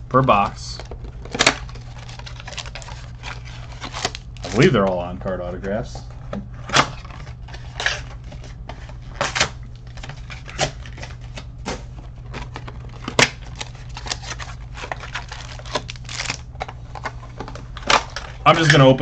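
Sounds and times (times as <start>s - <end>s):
cardboard and foil wrapper crinkling: 0.1s - 5.6s, 6.6s - 19.0s.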